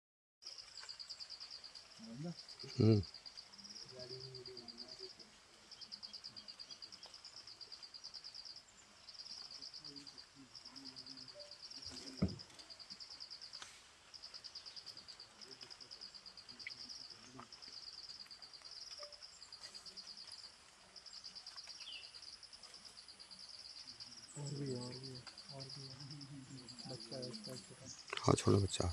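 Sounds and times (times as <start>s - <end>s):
insects chirping: 0.4s - 28.9s.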